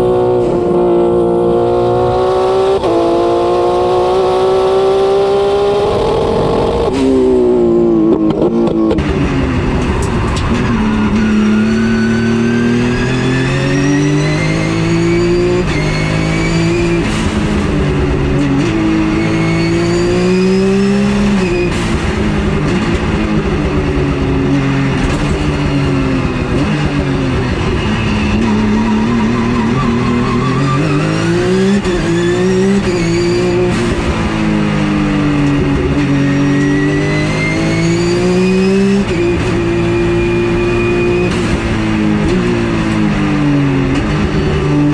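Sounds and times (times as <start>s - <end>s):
race car engine accelerating: 0.0s - 44.9s.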